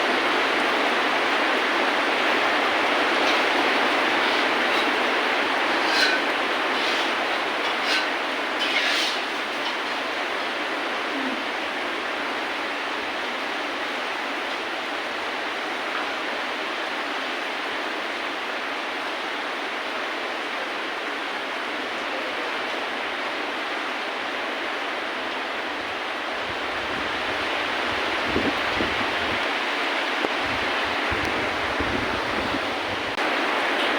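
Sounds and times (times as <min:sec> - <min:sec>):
heavy rain hissing: 0:00.0 - 0:33.9.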